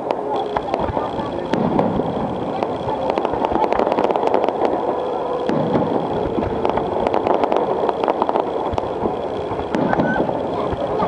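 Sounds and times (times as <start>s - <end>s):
dense rumble: 0.0s - 11.0s
fireworks popping and crackling: 0.0s - 11.0s.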